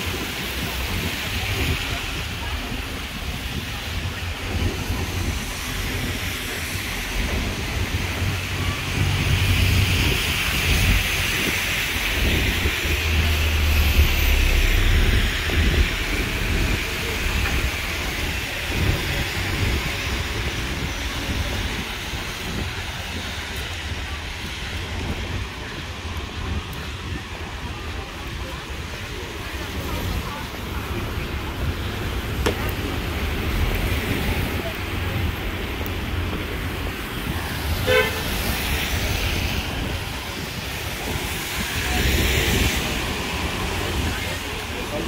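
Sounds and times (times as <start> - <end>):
low traffic rumble: 0.0 - 45.0
tyres hissing on wet road: 0.0 - 45.0.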